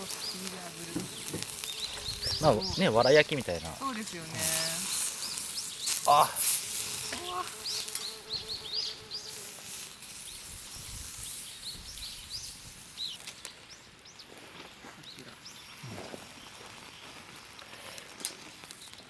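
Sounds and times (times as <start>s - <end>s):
small birds chirping: 0.0s - 19.0s
steady outdoor hiss: 0.0s - 19.0s.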